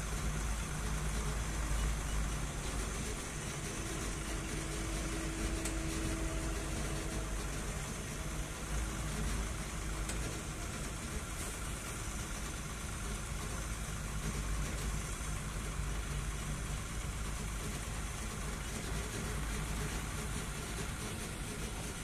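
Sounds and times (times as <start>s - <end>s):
road noise: 0.0s - 22.0s
truck diesel engine rumbling: 0.0s - 22.0s
wind: 0.0s - 22.0s.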